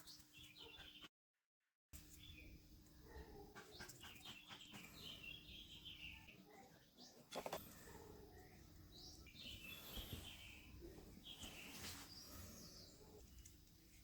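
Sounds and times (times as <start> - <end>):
faint birds chirping: 0.0 - 1.1, 2.0 - 14.0.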